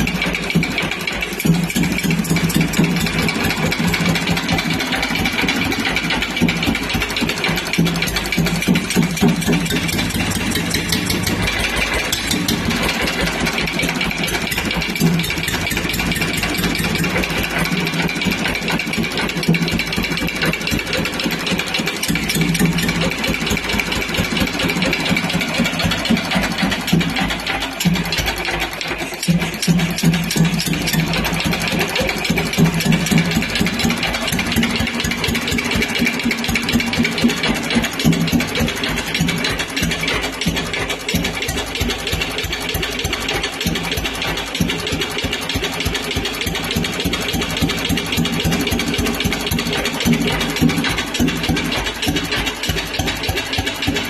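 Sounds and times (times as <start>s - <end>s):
stationary engine idling: 0.0s - 54.0s.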